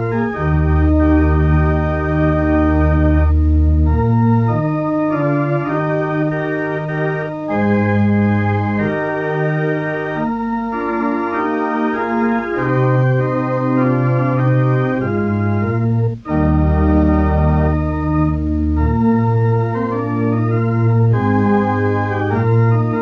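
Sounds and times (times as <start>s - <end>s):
slow organ chords: 0.0s - 23.0s.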